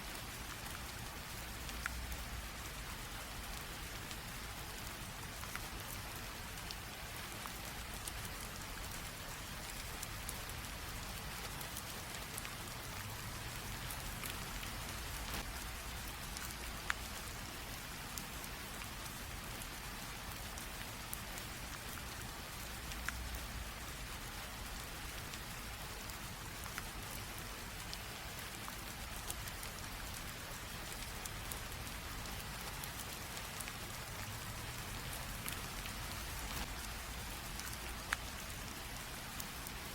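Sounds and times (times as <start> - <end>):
light rain drizzle: 0.0 - 39.9.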